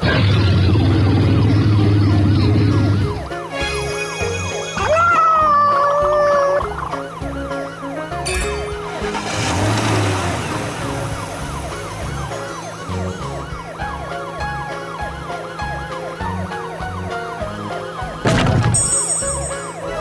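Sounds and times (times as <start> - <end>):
cartoon music with low beat: 0.0 - 20.0
warbling siren-like synth: 0.0 - 20.0.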